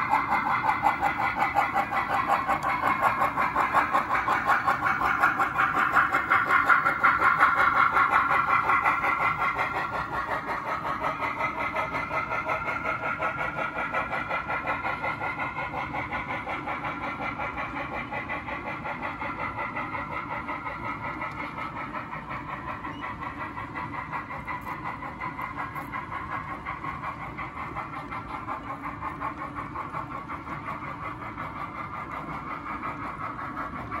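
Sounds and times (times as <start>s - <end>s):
model train running on track: 0.0s - 34.0s.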